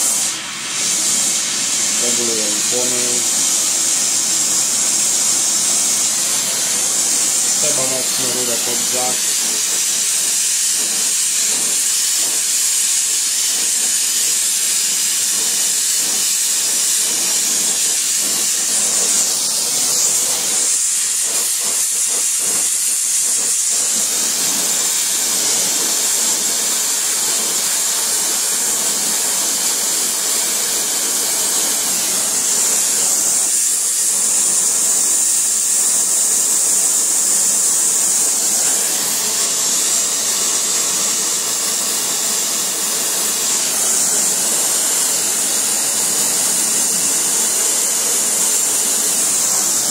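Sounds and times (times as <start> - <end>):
torch flame hissing: 0.0 - 49.9.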